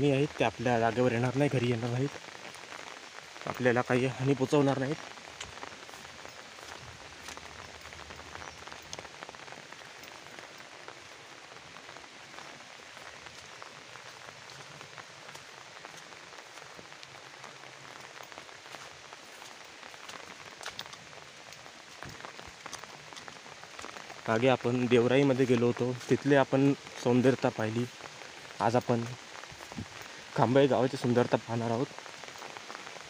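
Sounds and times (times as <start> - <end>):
sharp ticks of raindrops: 0.0 - 33.0
steady rain falling: 0.0 - 33.0.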